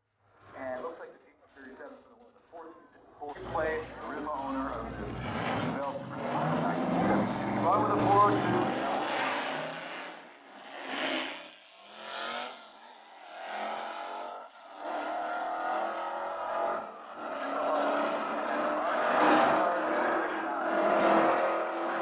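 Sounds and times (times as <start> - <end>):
cars accelerating at full throttle: 3.2 - 22.0.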